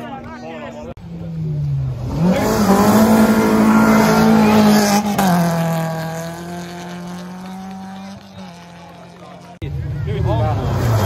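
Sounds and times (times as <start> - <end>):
rally car engine revving: 1.0 - 11.0.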